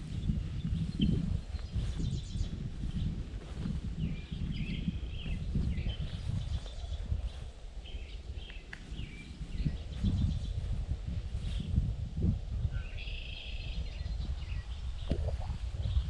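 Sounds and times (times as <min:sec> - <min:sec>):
songbirds chirping: 0:00.0 - 0:12.0, 0:12.6 - 0:16.0
low rumble of wind: 0:00.0 - 0:16.0.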